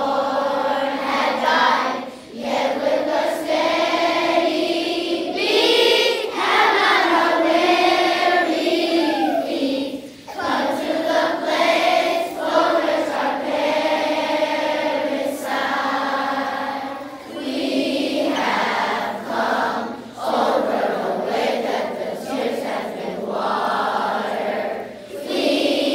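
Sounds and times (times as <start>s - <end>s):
children's choir singing: 0.0s - 25.9s.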